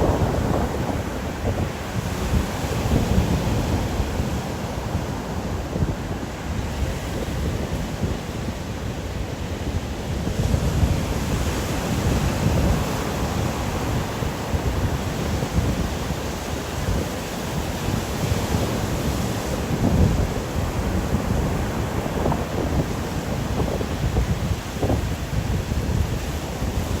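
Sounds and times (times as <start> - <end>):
gusting wind: 0.0 - 27.0.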